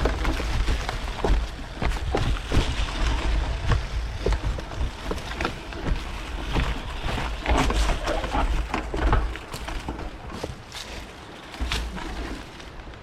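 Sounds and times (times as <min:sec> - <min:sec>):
wind on microphone: 0:00.0 - 0:11.0
bike clattering on rocky trail: 0:00.0 - 0:13.0.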